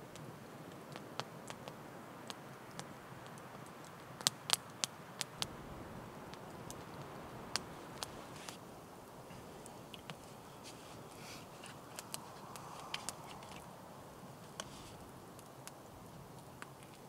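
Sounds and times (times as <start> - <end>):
campfire crackling and popping: 0.0 - 17.0
soft steady hiss: 0.0 - 17.0.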